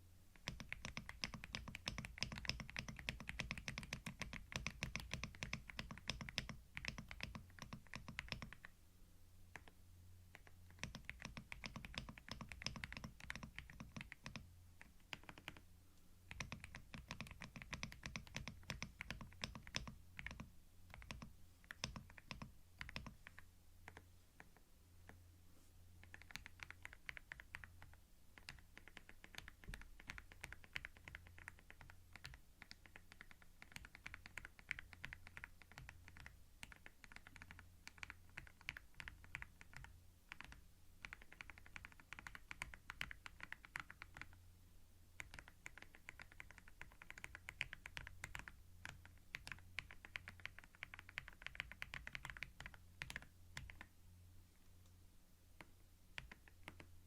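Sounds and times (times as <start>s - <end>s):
low steady hum: 0.0s - 57.0s
computer keyboard typing: 0.4s - 8.7s, 9.5s - 15.7s, 16.3s - 24.5s, 26.0s - 44.4s, 45.2s - 53.9s, 55.6s - 57.0s.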